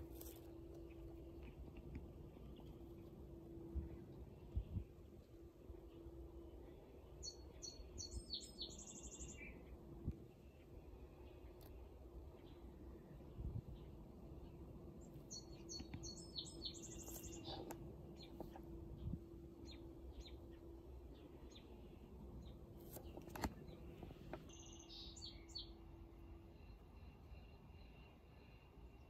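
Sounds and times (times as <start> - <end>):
faint birds chirping: 0.0 - 29.0
faint low hum: 0.0 - 29.0.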